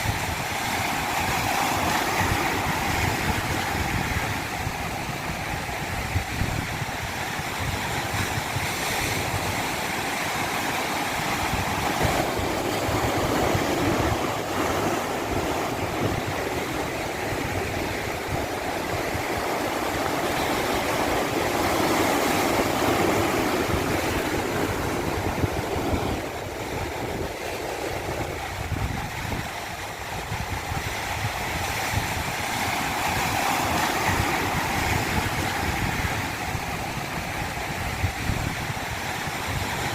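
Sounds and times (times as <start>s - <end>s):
water rushing down stream: 0.0s - 39.9s.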